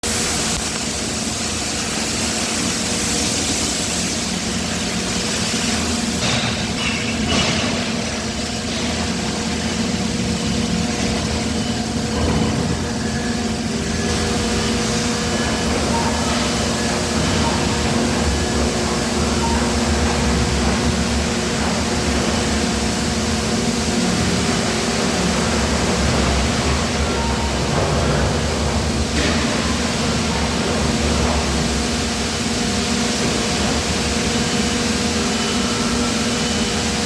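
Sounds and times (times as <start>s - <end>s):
heavy factory machinery drone: 0.0s - 37.0s.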